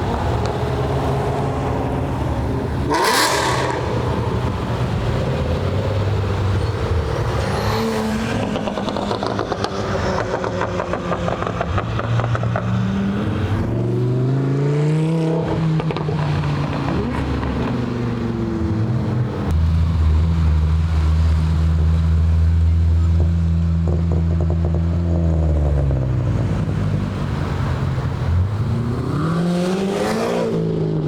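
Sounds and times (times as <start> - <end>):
car accelerating past: 0.0 - 31.0
car engines running: 0.0 - 31.0.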